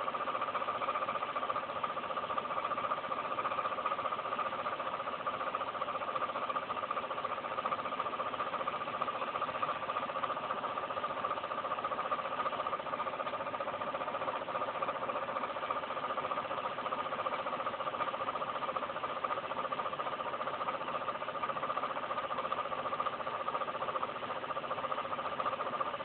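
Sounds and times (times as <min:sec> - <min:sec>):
ventilation fan whirring: 0:00.0 - 0:26.0.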